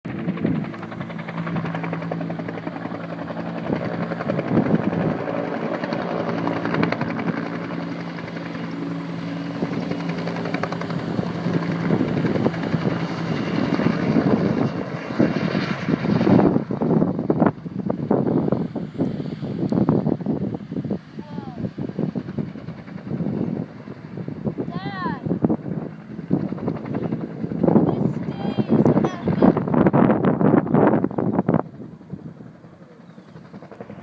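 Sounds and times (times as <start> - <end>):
gusty wind noise: 0.1 - 1.8, 2.5 - 8.4, 9.1 - 32.6
helicopter rotor drone: 0.1 - 34.0.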